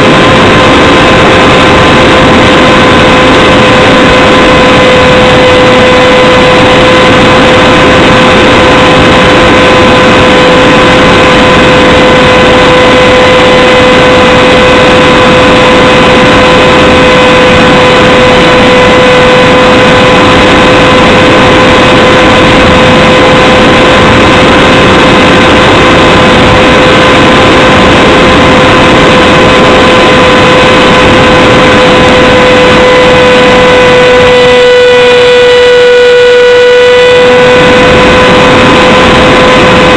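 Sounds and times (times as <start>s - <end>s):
electric motor whining: 0.0s - 39.9s
wind rushing across microphone: 0.0s - 39.9s.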